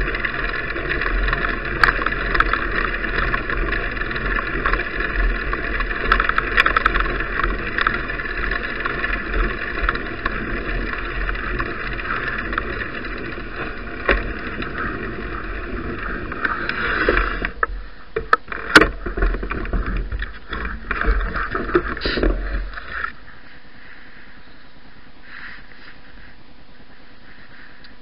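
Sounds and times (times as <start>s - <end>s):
bicycle rattles and knocks: 0.0s - 23.2s
bicycle tyres on snowy road: 0.0s - 28.0s
quiet steady noise: 0.0s - 28.0s.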